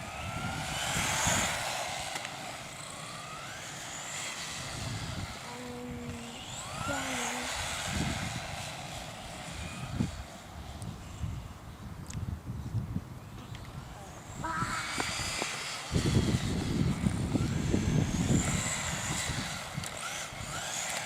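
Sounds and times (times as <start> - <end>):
rc car electric motor whine: 0.0 - 11.6, 13.5 - 21.0.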